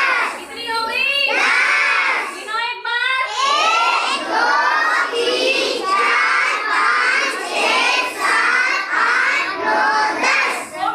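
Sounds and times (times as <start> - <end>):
children chanting: 0.0 - 2.5, 3.2 - 10.9.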